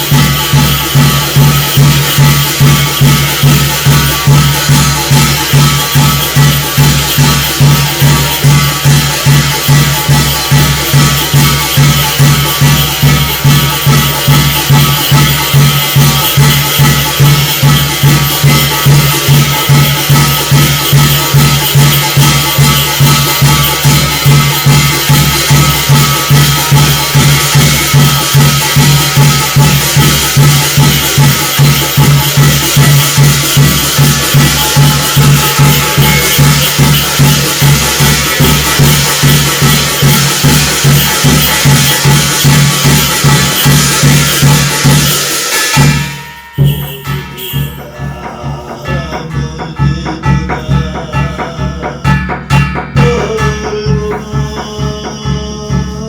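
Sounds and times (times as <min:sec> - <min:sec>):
driving drum rhythm: 0:00.0 - 0:56.0
metallic ringing percussion: 0:00.0 - 0:56.0.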